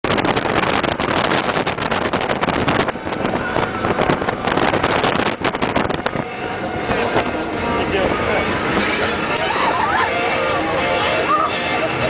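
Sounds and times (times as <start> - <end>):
wind buffeting microphone: 0.0 - 10.0
boat engine rumble: 0.0 - 12.0
water rushing: 0.0 - 12.0.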